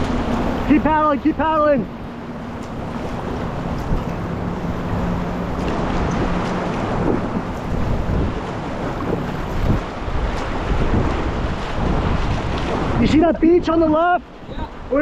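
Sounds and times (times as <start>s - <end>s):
paddle splashes: 0.0s - 15.0s
rushing whitewater: 0.0s - 15.0s
wind buffeting microphone: 0.0s - 15.0s.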